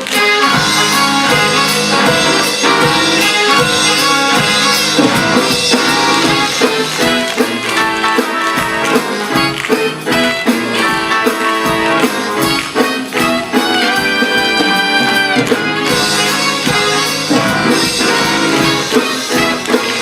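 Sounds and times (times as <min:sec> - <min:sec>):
live band playing: 0:00.0 - 0:20.0.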